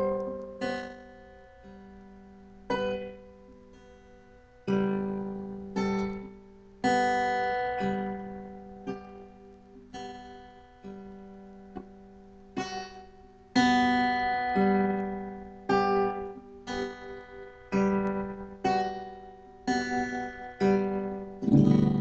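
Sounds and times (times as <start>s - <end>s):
fingerpicked acoustic guitar: 0.0s - 22.0s.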